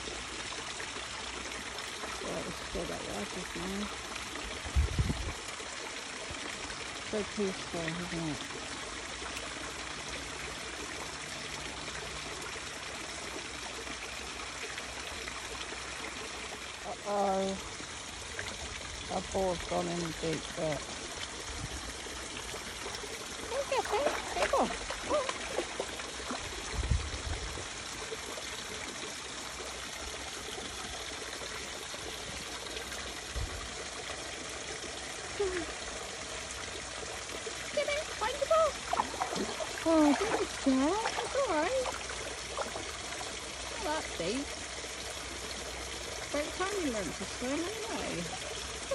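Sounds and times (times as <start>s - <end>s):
water trickling into stream: 0.0s - 48.9s.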